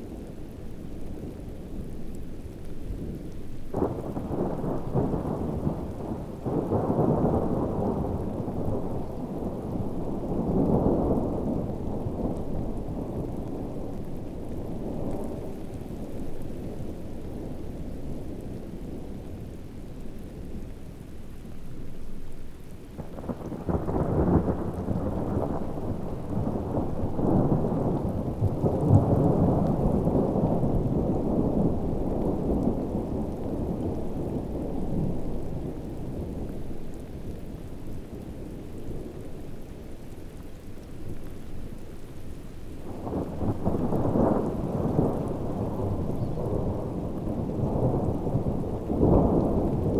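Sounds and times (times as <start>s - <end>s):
heavy rain: 0.0s - 49.9s
low rolling thunder: 2.9s - 19.6s, 21.7s - 39.6s, 42.8s - 49.9s.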